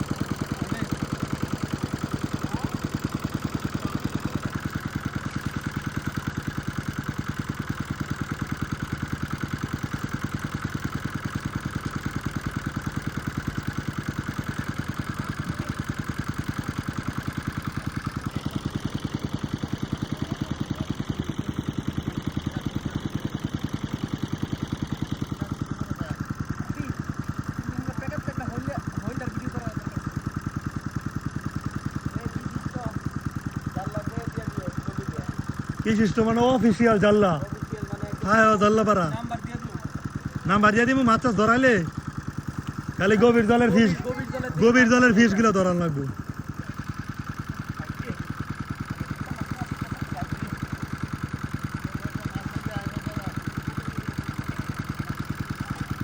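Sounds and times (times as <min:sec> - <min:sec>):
engine chugging steadily: 0:00.0 - 0:56.0.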